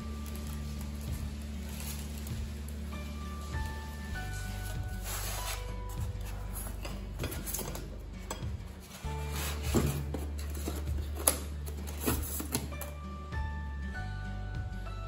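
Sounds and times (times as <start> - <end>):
background music with bass: 0.0 - 15.0.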